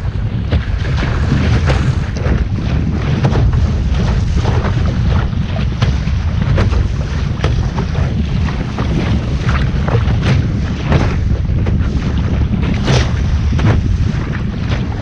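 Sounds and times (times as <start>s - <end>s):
water splashing and slapping: 0.0s - 15.0s
wind buffeting microphone: 0.0s - 15.0s.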